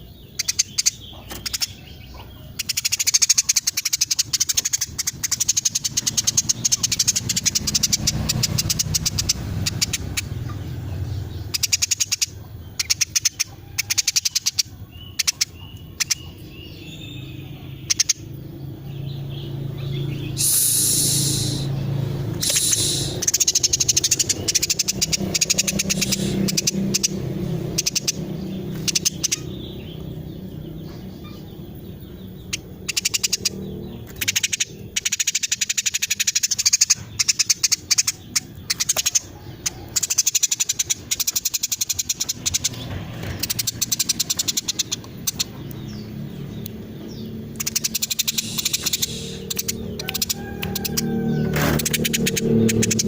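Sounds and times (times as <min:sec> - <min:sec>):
sparrow chirping: 0:00.0 - 0:53.0.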